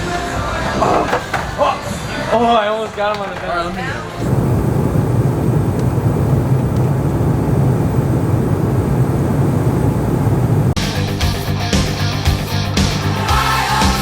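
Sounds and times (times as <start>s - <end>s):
jet engines rumbling: 0.0s - 11.4s.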